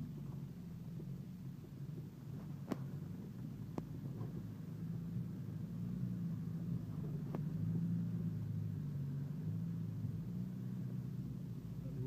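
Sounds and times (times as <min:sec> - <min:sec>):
car engine droning at low revs: 0:00.0 - 0:12.0.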